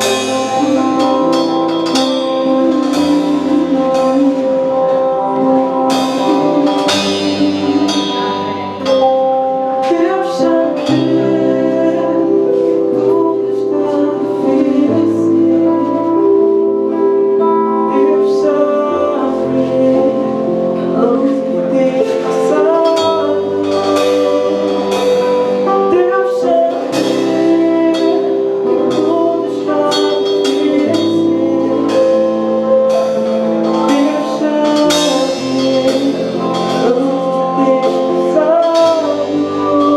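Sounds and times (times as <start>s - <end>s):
band music with bass line: 0.0s - 39.9s.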